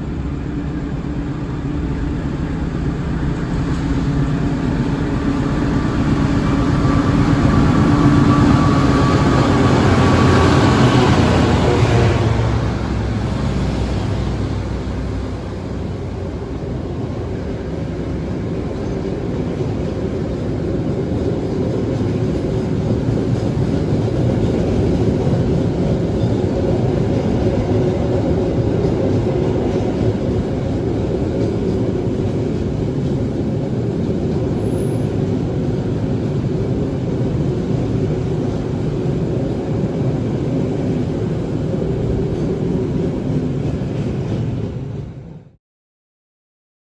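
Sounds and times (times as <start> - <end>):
train rumbling on tracks: 0.0 - 45.6.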